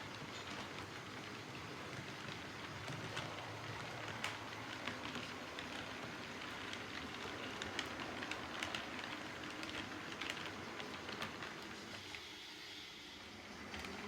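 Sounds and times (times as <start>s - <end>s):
wheels clicking over rail joints: 0.0s - 12.2s
model train rolling: 0.0s - 14.0s.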